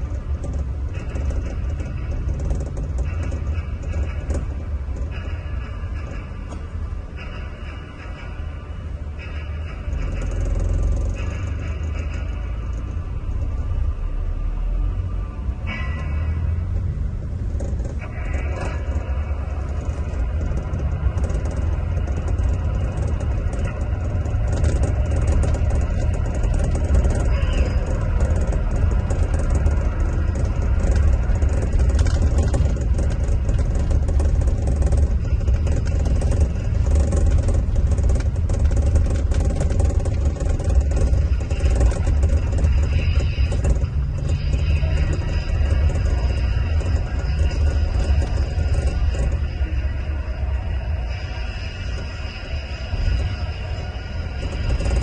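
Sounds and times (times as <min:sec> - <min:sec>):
coach diesel engine drone: 0:00.0 - 0:55.0
road noise: 0:00.0 - 0:55.0.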